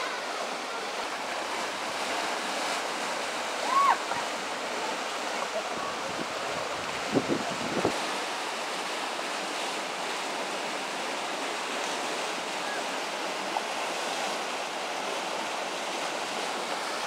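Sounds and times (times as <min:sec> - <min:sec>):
river rapid rushing: 0:00.0 - 0:17.0.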